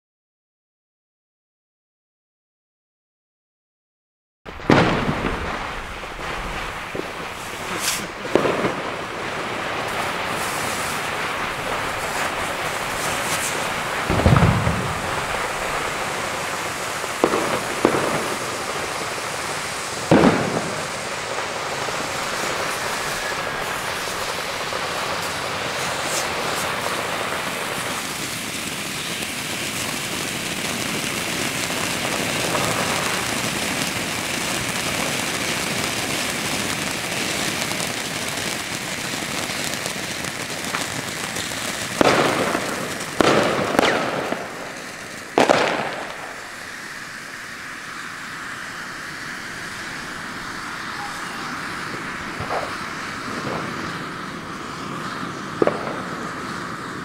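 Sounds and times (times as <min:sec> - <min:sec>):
firework bangs and crackles: 0:04.5 - 0:57.0
firework pops: 0:04.5 - 0:57.0
fireworks burning with rushing hiss: 0:04.5 - 0:57.0.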